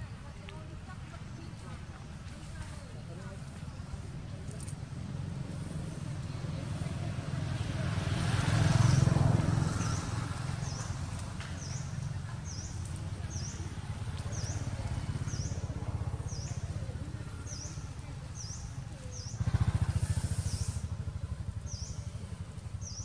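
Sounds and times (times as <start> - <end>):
vehicle engine passing: 3.4 - 23.0.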